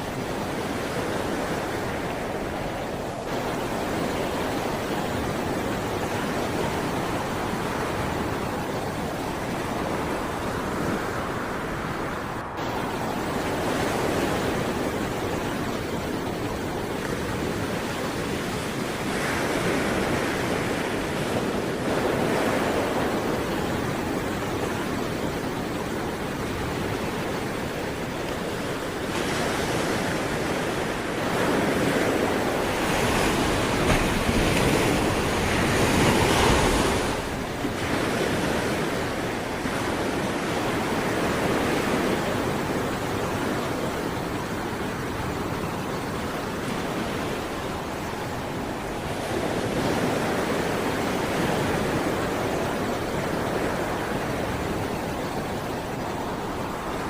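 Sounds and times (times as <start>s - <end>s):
sea waves breaking on shore: 0.0s - 57.0s
wind noise on microphone: 0.0s - 57.0s.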